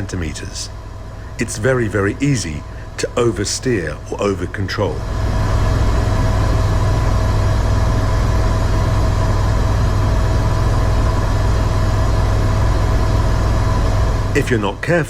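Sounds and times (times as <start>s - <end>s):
helicopter rotor drone: 0.0s - 15.0s
turbine whine: 0.0s - 15.0s.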